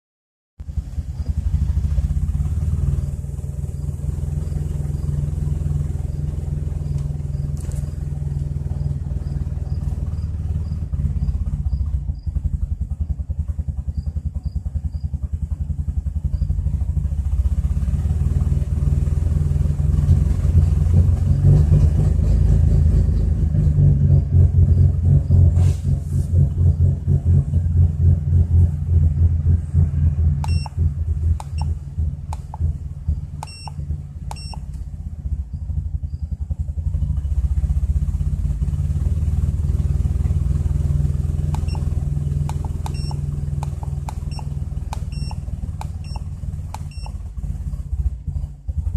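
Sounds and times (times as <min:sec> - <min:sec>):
car engine idling roughly: 0:00.6 - 0:22.8, 0:25.2 - 0:48.9.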